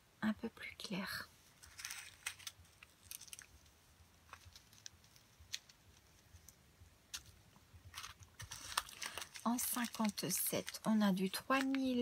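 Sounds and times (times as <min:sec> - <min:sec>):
plastic bags crinkling: 0:01.6 - 0:12.0.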